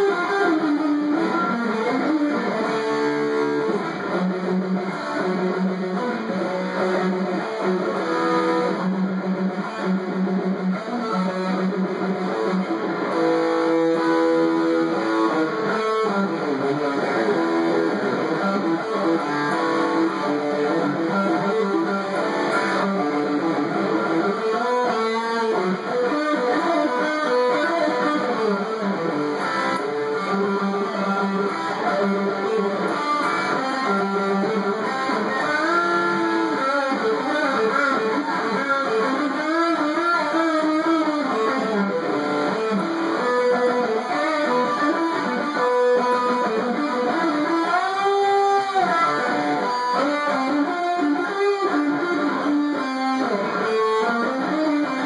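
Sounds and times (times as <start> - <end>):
electric guitar through amplifier: 0.0 - 55.0.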